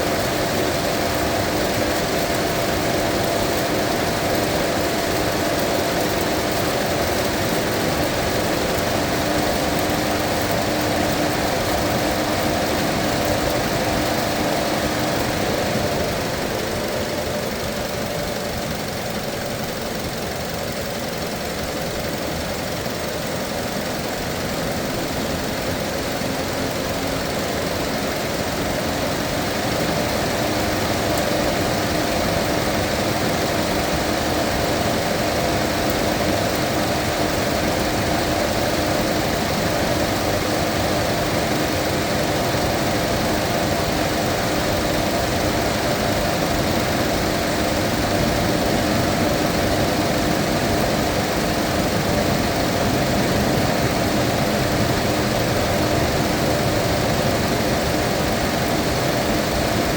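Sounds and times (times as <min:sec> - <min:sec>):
car engine idling: 0:00.0 - 0:59.9
faint steady whine: 0:00.0 - 0:59.9.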